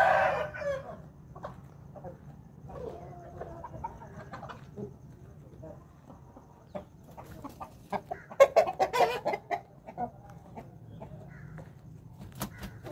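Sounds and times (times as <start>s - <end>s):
chickens clucking: 0.0s - 12.9s.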